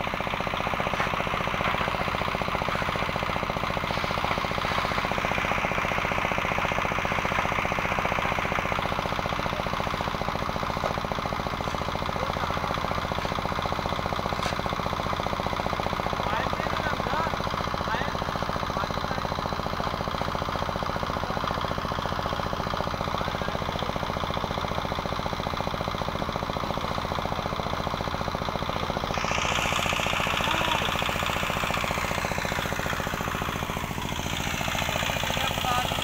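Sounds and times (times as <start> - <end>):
concrete mixer engine chugging: 0.0 - 36.0.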